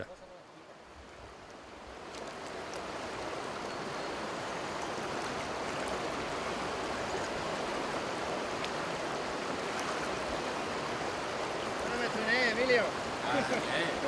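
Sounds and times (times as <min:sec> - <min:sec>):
river water rushing over stones: 0:00.1 - 0:14.0.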